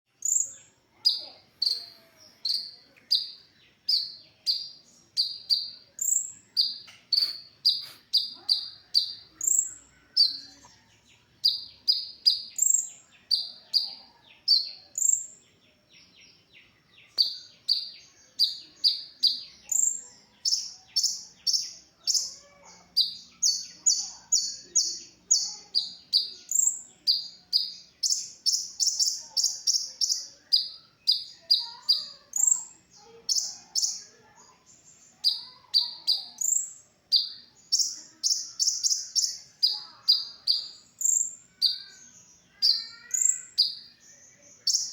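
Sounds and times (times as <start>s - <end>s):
bird chirping high and sharp: 0.2s - 10.7s, 11.4s - 15.4s, 17.0s - 34.1s, 34.9s - 44.9s.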